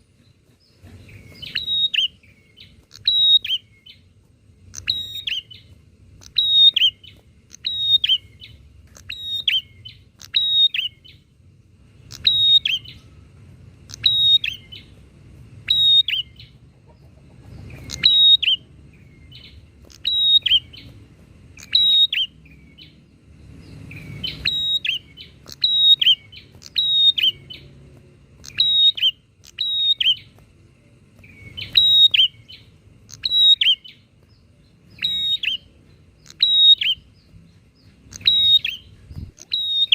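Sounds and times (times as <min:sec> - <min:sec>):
faint low rumble: 0:00.0 - 0:39.7
birds calling back and forth: 0:00.0 - 0:39.9.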